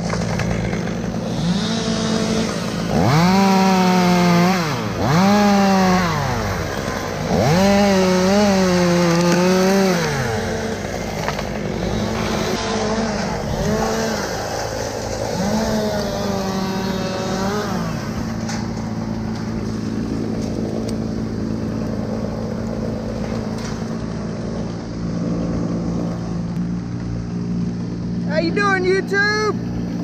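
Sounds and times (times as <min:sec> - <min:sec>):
chainsaw engine running: 0:00.0 - 0:30.0.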